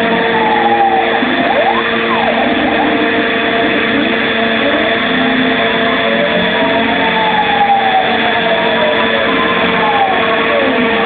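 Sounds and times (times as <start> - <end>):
cnc machine motor hum and whine: 0.0 - 11.0
stepper motor tones gliding: 0.0 - 11.0.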